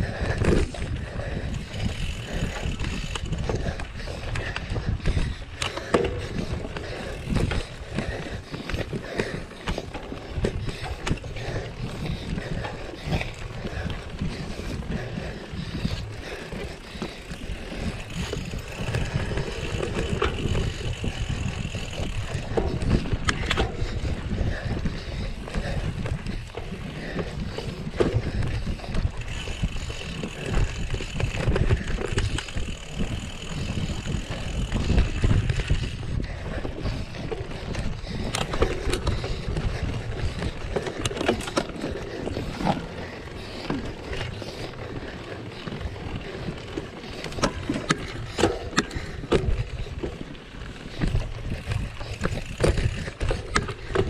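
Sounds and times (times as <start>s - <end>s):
wind on microphone: 0.0s - 44.8s
bike knocks and rattles: 0.0s - 54.0s
bike tyres rumbling over rough ground: 0.0s - 54.0s.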